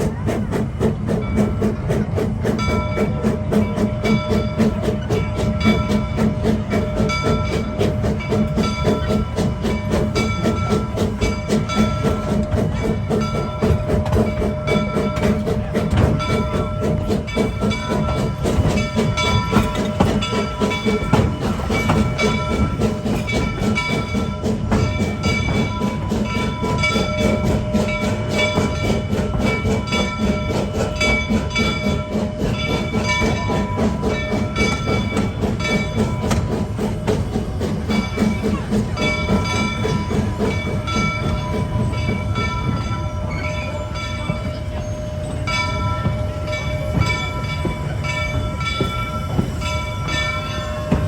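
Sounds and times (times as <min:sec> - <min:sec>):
train wheels clicking over rail joints: 0:00.0 - 0:51.0.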